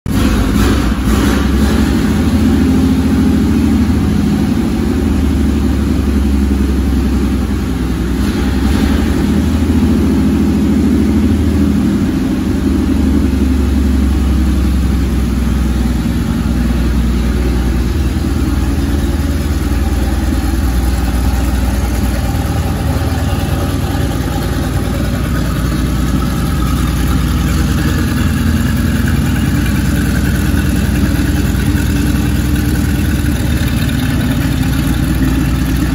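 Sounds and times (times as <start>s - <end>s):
engine idling: 0.1s - 35.9s.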